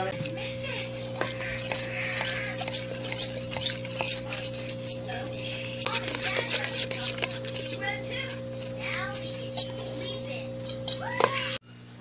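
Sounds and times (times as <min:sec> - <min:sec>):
fork scraping metal bowl: 0:00.1 - 0:11.6.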